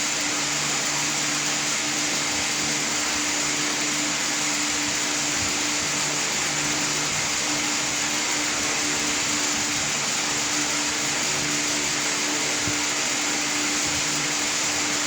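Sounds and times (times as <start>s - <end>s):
electric fan air rushing: 0.0s - 15.0s.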